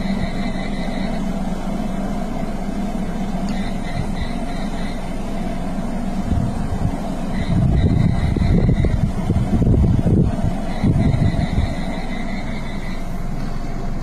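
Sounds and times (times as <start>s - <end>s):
deep uneven rumble: 0.0s - 14.0s
vehicle engine idling: 0.0s - 14.0s.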